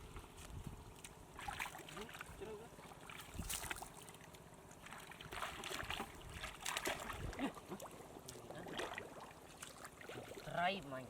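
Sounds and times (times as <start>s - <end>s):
shallow water splashing: 1.3s - 10.9s.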